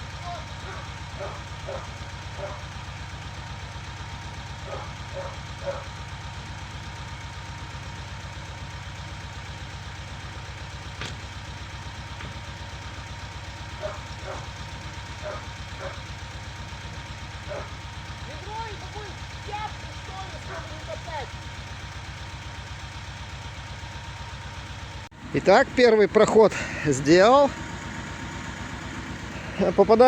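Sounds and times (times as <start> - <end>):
motor tiller running: 0.0 - 30.0.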